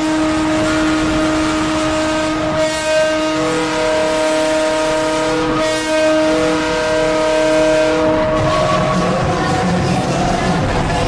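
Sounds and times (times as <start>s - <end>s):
goal horn blowing: 0.0s - 9.4s.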